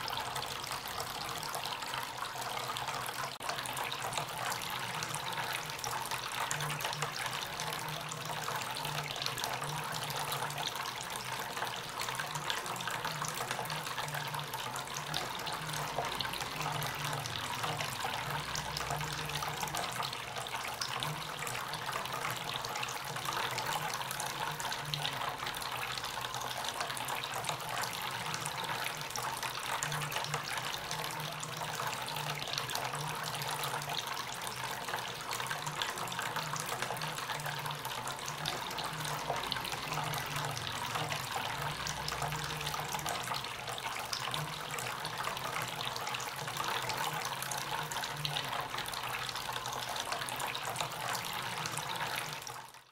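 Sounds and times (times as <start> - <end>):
fountain water trickling into basin: 0.0 - 52.9.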